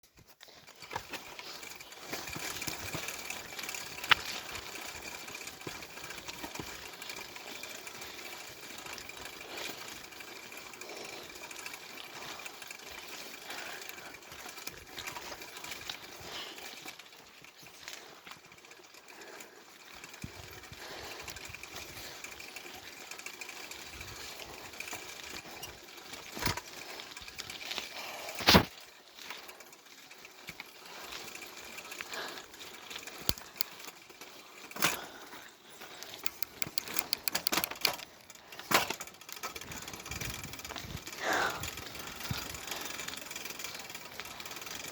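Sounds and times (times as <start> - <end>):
bicycle chain rattle and whirr: 0.0 - 44.9.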